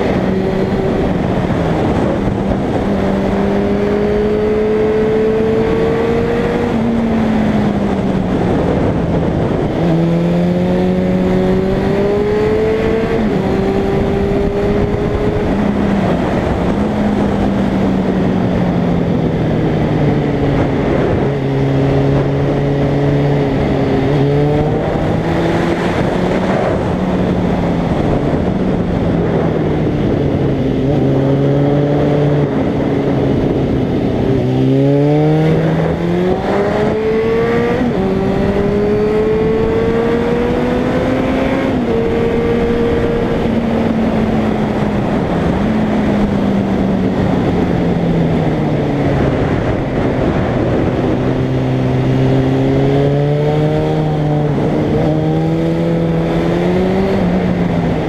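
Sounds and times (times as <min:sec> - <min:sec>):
motorcycle engine: 0:00.0 - 0:58.0
wind rushing over microphone: 0:00.0 - 0:58.0.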